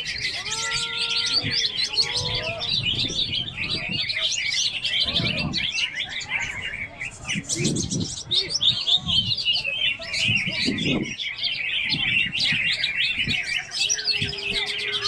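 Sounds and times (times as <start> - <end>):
murmur of voices: 0.0 - 15.0
songbirds chirping and trilling: 0.0 - 15.0.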